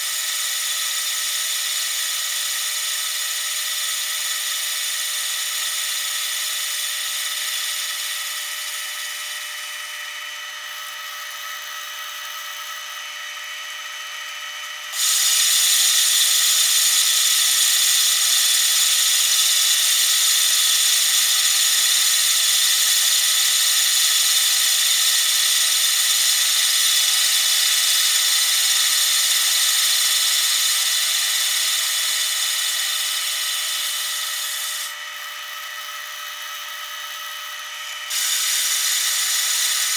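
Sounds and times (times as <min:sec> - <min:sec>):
lathe whining: 0:00.0 - 0:39.9
tool bit hissing cutting metal: 0:00.0 - 0:39.9.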